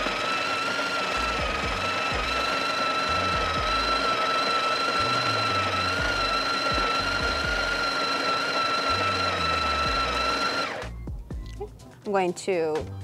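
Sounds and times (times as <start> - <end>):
coffee grinder whining: 0.0 - 11.4.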